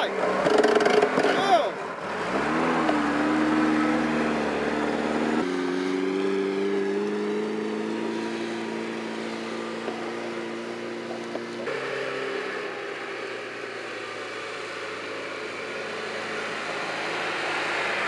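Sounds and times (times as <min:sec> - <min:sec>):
car engine pulling uphill: 0:00.0 - 0:18.0.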